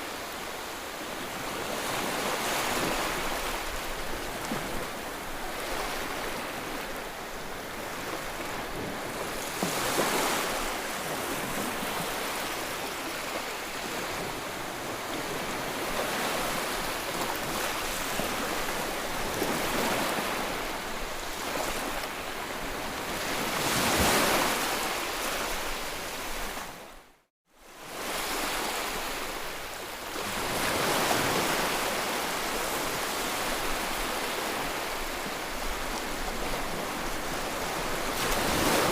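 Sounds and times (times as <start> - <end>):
ocean waves breaking: 0.0 - 26.9, 27.8 - 38.9.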